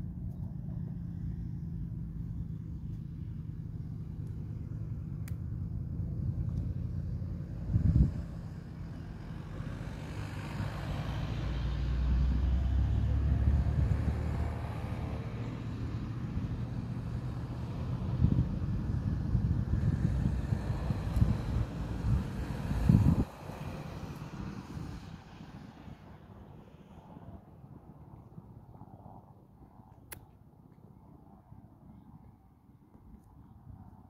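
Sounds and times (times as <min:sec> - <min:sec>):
helicopter drone: 0:00.0 - 0:29.5.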